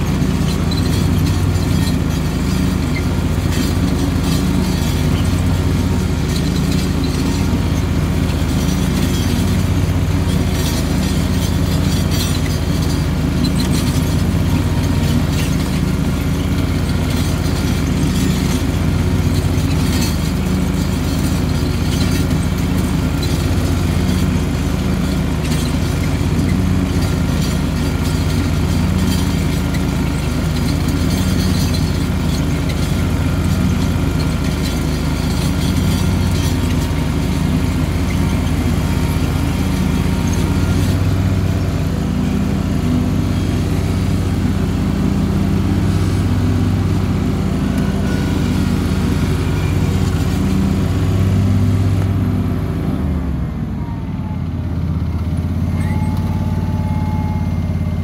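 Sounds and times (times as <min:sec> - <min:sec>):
garden tractor engine running: 0:00.0 - 0:58.0
mower deck cutting grass: 0:00.0 - 0:58.0.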